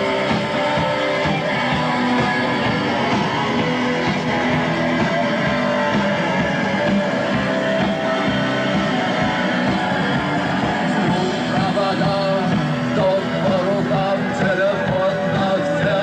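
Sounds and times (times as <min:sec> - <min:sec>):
rock band playing live: 0:00.0 - 0:16.0.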